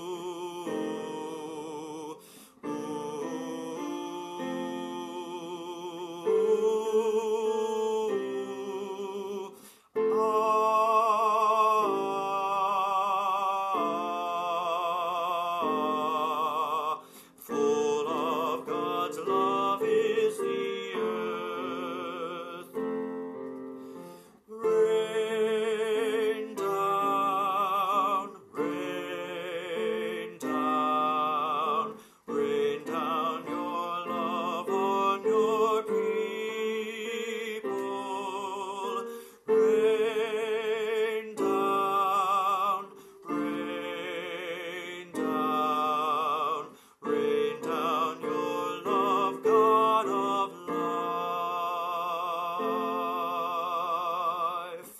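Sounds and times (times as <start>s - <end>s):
piano accompaniment: 0.0s - 54.9s
soprano singing a hymn: 0.0s - 54.9s.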